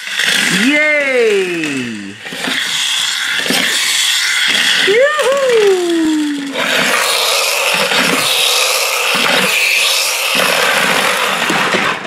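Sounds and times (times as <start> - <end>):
toy wheels rolling on wooden floor: 0.0 - 12.0.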